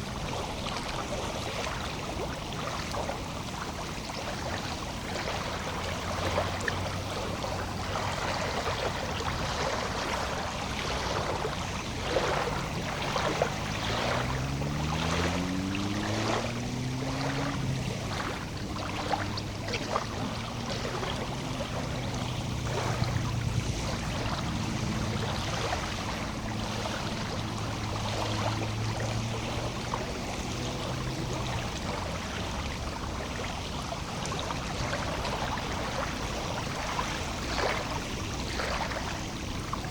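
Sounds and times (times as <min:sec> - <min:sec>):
water lapping at shore: 0:00.0 - 0:39.9
engine humming: 0:03.1 - 0:39.9.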